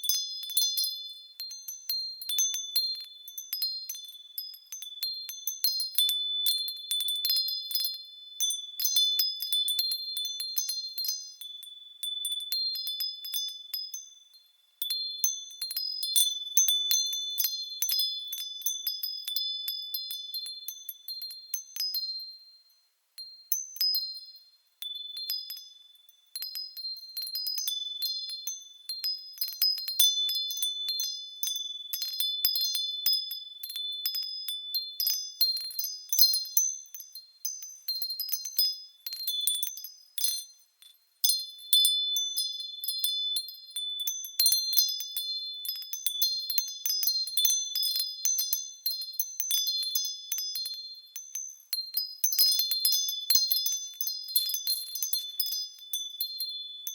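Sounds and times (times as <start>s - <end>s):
wind chimes ringing: 0.0s - 22.4s, 24.8s - 56.9s.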